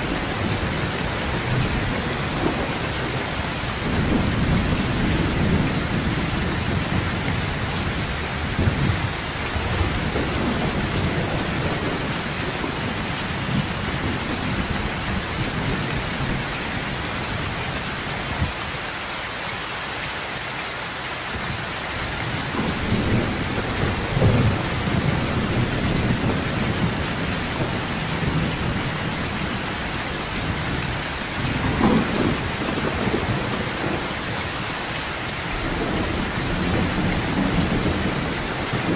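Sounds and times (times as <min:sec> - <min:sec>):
rolling thunder: 0:00.0 - 0:18.6, 0:22.2 - 0:38.9
heavy rain: 0:00.0 - 0:38.9.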